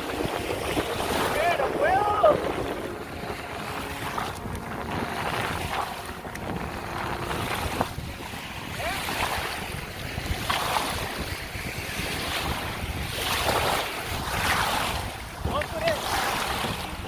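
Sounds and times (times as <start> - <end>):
lake water lapping: 0.0 - 17.0
wind buffeting microphone: 0.0 - 17.0.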